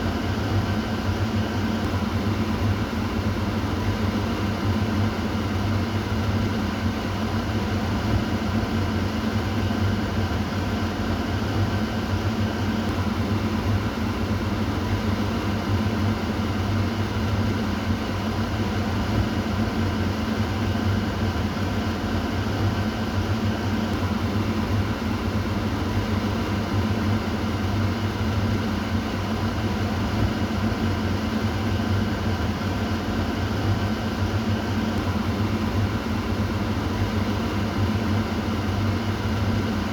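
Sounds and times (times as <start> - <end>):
kitchen exhaust fan whirring: 0.0 - 39.9.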